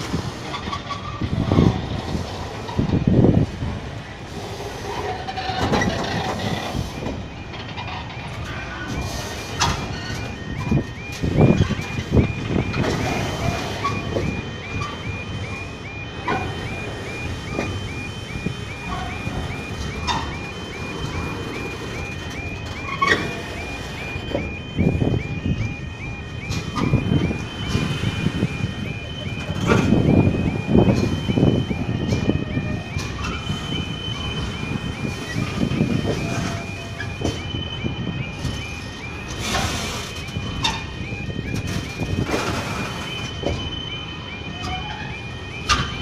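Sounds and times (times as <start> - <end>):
level crossing alarm: 0.0 - 46.0
train rumbling: 0.0 - 46.0.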